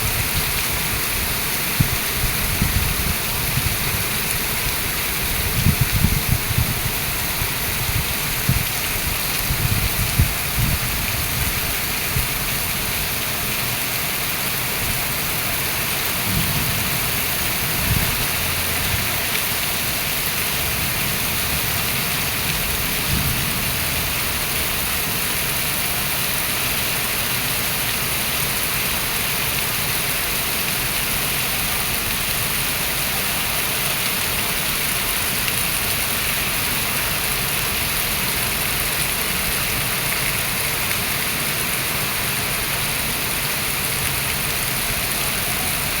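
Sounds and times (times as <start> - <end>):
heavy rain pouring: 0.0 - 46.0.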